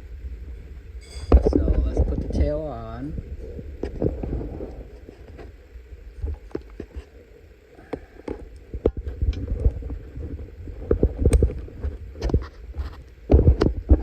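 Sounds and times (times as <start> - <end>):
low handling rumble: 0.0 - 14.0.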